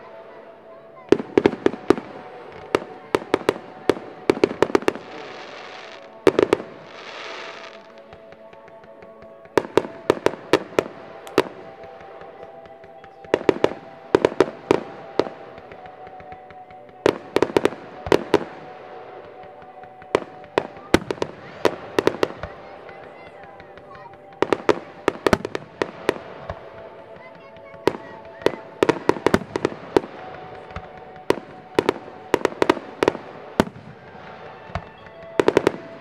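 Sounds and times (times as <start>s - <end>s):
fireworks bursting with sharp bangs: 0.0s - 36.0s.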